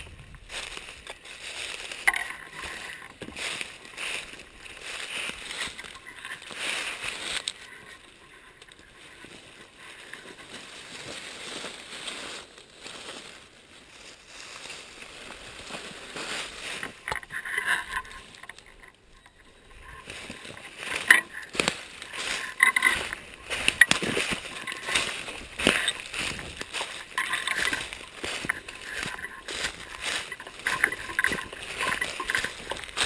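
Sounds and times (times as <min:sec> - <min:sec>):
dry leaves rustling and crunching: 0:00.0 - 0:33.0.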